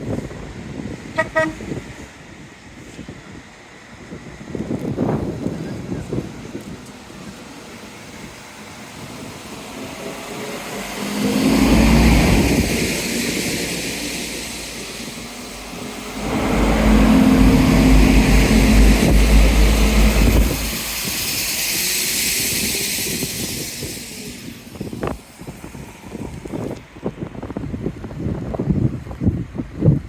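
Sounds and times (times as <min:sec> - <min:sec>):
diesel train engine droning: 0:00.0 - 0:30.0.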